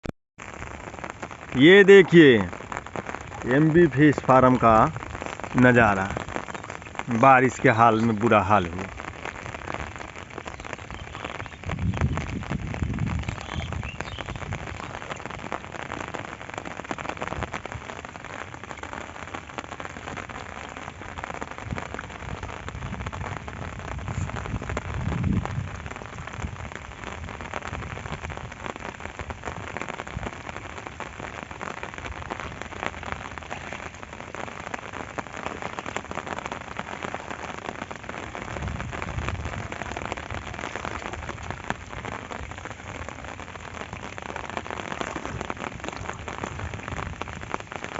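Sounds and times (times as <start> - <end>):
steady rain patter: 0.4 - 47.9.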